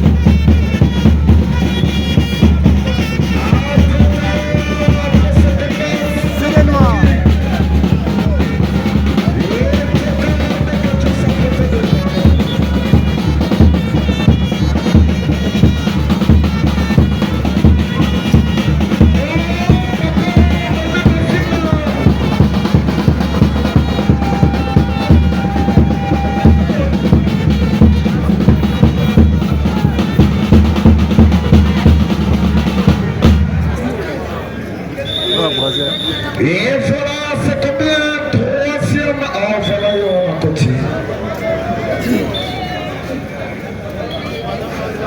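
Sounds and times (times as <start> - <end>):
drums beating fast rhythm: 0.0 - 34.0, 35.1 - 40.8.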